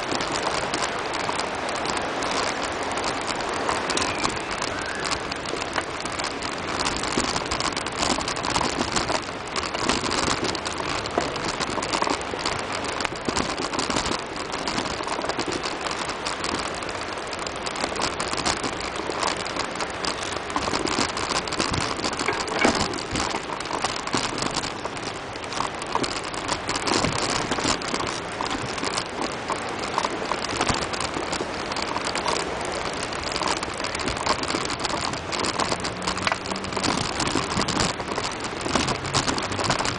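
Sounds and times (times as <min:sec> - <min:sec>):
bicycle tyres on dirt and leaves: 0:00.0 - 0:39.9.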